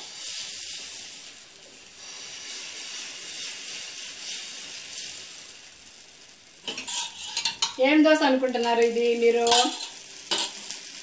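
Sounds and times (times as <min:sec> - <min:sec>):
batter sizzling on hot pan: 0:00.0 - 0:11.0.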